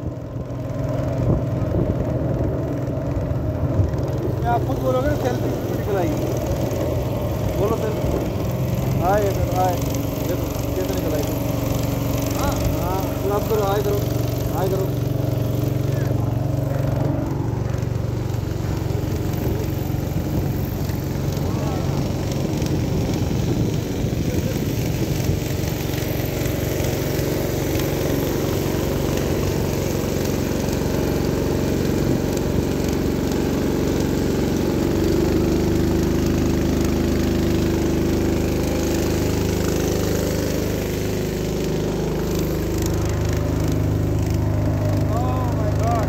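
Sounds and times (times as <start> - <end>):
motorboat engine running: 0.0 - 46.0
wind and water hiss: 0.1 - 46.0.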